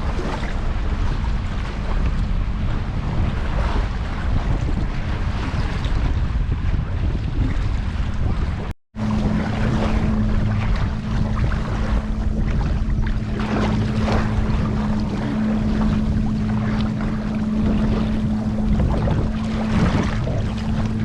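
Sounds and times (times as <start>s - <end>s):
boat motor running: 0.0s - 21.0s
water splashing: 0.0s - 21.0s
wind on microphone: 0.0s - 21.0s.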